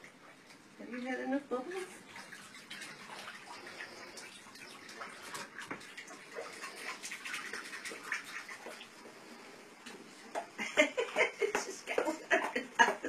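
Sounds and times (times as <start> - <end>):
water splashing in bathtub: 0.0 - 13.0.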